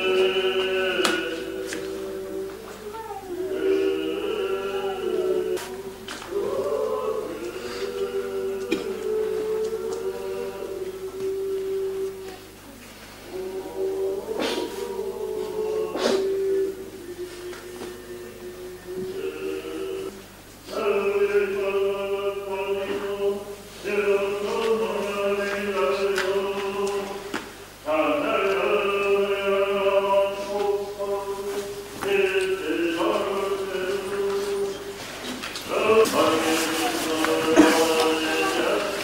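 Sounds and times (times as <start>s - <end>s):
voices chanting long notes: 0.0s - 12.6s, 13.2s - 39.0s.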